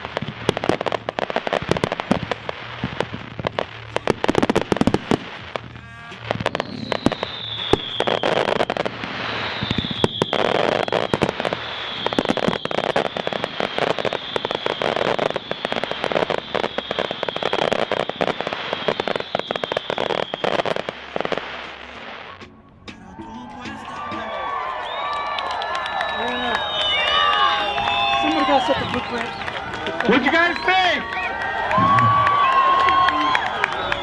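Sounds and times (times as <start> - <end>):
falling firework whistle: 0.0 - 34.0
fireworks crackling and reports: 0.0 - 34.0.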